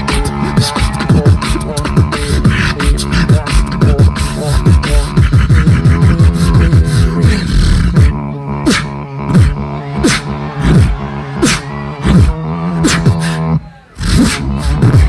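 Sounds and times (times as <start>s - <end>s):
beatboxed snare hits: 0.0s - 13.4s, 14.0s - 15.0s
beatboxing vocal drums: 0.0s - 15.0s
steady bass drone: 0.0s - 15.0s.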